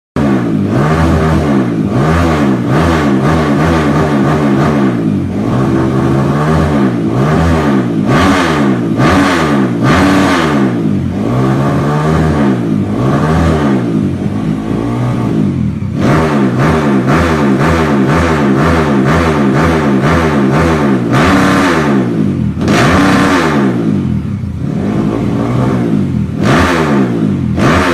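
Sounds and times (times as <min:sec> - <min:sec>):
motorcycle engine revving: 0:00.2 - 0:27.9.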